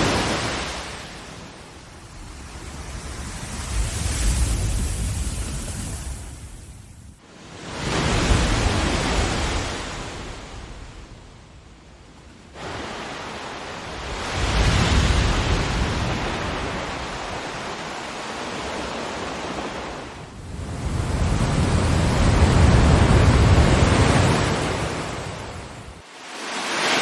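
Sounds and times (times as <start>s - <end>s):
ocean waves surging: 0.0s - 10.9s, 12.5s - 27.0s.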